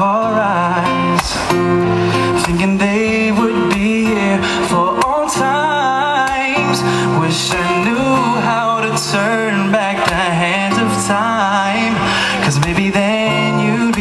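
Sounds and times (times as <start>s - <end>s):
man singing: 0.0s - 14.0s
strummed acoustic guitar: 0.0s - 14.0s.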